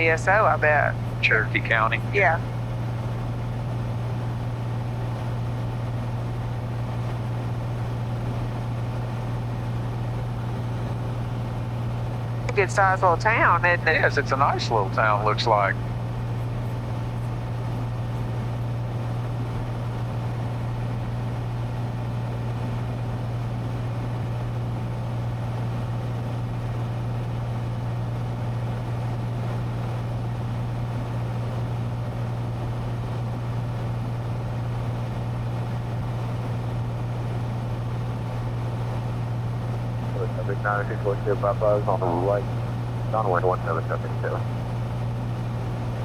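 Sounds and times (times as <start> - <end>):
propeller plane engine droning: 0.0 - 46.0.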